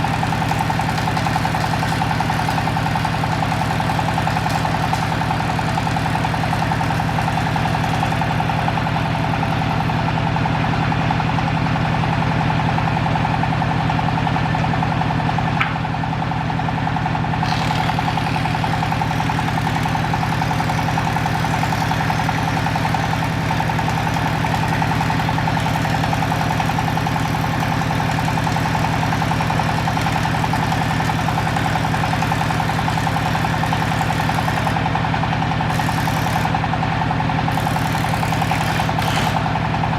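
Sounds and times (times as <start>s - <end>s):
woodworking machine motor running: 0.0s - 39.9s.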